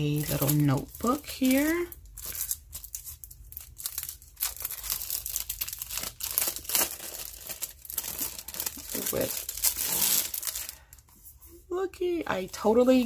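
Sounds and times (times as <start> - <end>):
plastic wrap crinkling and tearing: 0.0 - 11.0.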